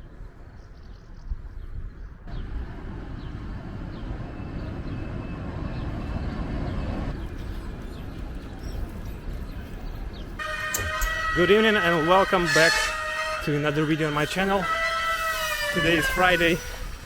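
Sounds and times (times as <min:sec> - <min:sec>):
train rumbling: 0:02.2 - 0:17.0.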